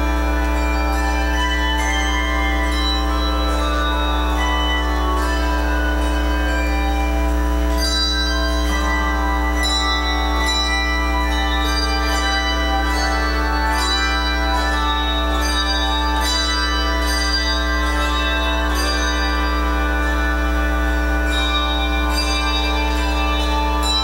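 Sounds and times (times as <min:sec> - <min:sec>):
handbells ringing: 0:00.0 - 0:24.0.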